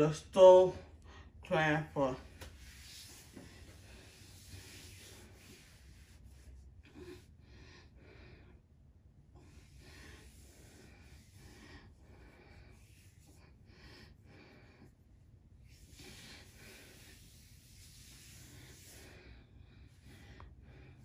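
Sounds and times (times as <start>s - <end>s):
low room hum: 0.0s - 21.0s
faint breathing: 2.7s - 21.0s.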